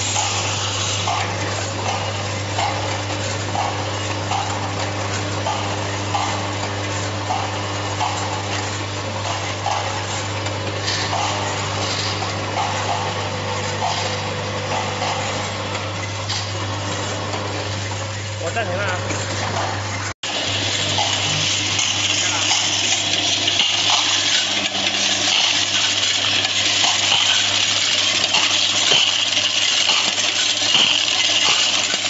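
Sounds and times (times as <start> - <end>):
vibrating feeder hum: 0.0 - 32.0.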